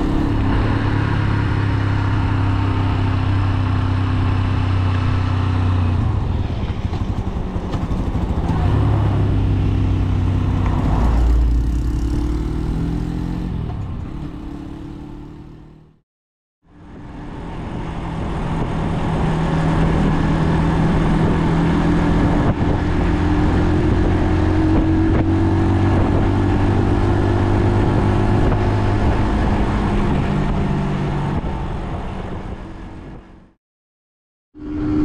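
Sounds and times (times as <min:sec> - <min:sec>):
motorcycle engine cruising: 0:00.0 - 0:16.0, 0:16.9 - 0:33.4, 0:34.6 - 0:35.0.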